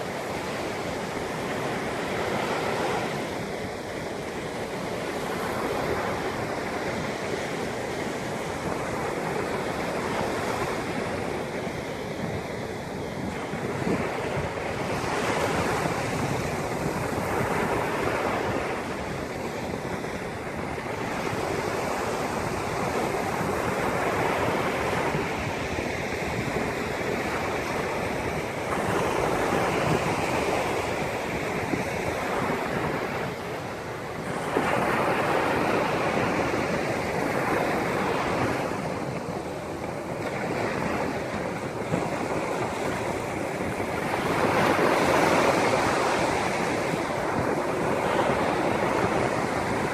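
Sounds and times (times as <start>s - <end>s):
sea waves breaking on shore: 0.0s - 49.9s.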